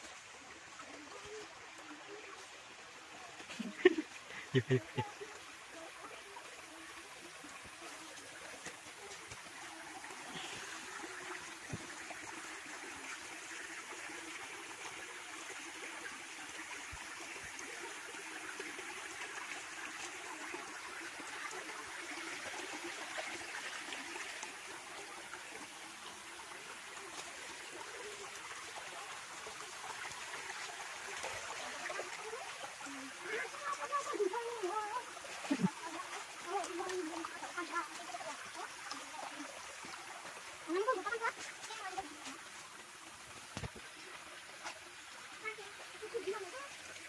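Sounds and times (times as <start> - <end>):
stream trickling over stones: 0.0 - 47.0.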